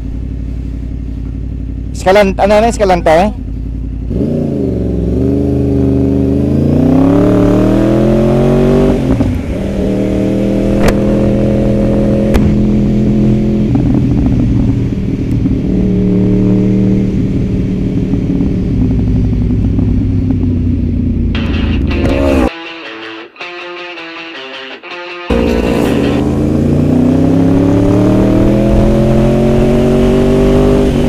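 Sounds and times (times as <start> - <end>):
motorcycle engine accelerating: 0.0 - 22.5, 25.3 - 31.0.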